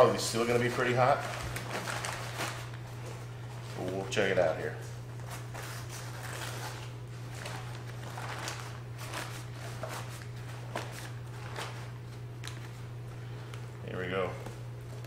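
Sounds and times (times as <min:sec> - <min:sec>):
greasy paper rustling: 0:00.0 - 0:13.7.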